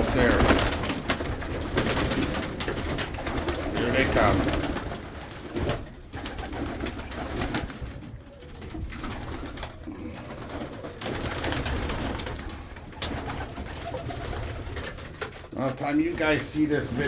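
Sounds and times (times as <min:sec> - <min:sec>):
pigeons clattering: 0:00.0 - 0:17.0
pigeons cooing: 0:00.0 - 0:17.0.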